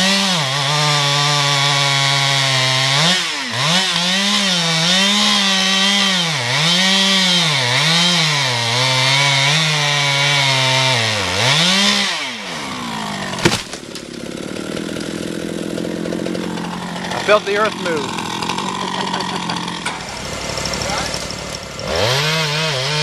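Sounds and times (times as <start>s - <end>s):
chainsaw cutting log: 0.0s - 23.0s.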